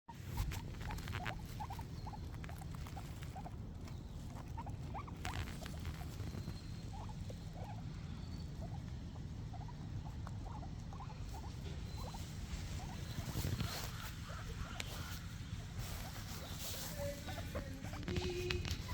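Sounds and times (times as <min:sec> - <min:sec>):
guinea pigs chewing grass: 0:00.1 - 0:18.9.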